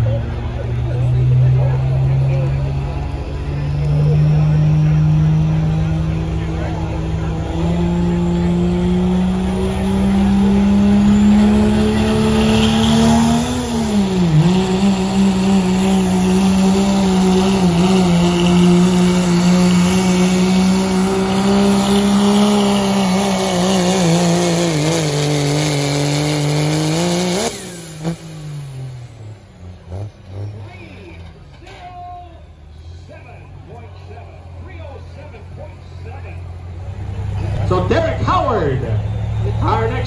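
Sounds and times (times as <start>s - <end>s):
diesel engine at full throttle: 0.0s - 40.0s.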